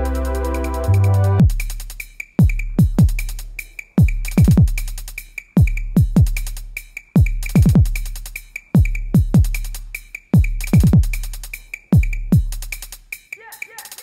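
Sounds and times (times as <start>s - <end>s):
electronic music with drum machine: 0.0s - 14.0s.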